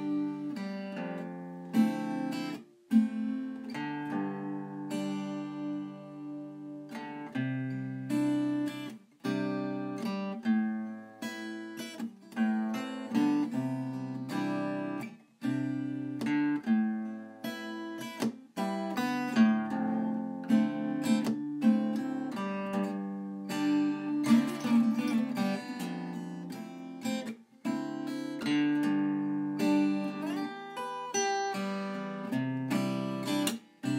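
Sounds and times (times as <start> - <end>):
acoustic guitar chords plucked: 0.0 - 33.9.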